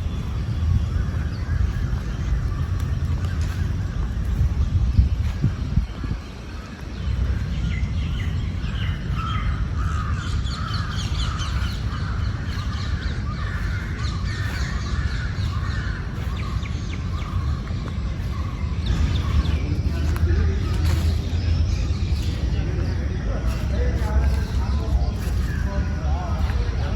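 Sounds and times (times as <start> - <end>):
birds calling: 0.0 - 26.9
steady low rumble: 0.0 - 26.9.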